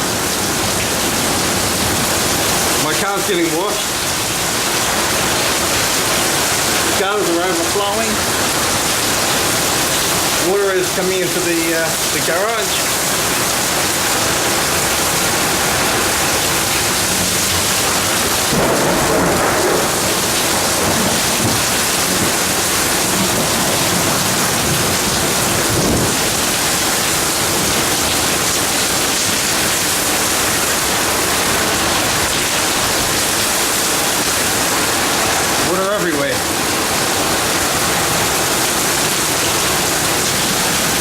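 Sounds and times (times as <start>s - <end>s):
heavy rain hissing: 0.0s - 41.0s
water pouring from gutters: 0.0s - 41.0s.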